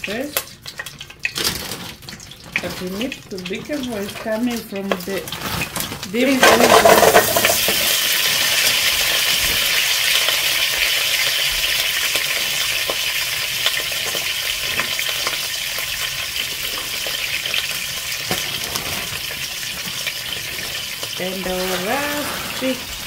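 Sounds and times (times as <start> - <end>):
meatballs sizzling in oil: 0.0 - 23.0.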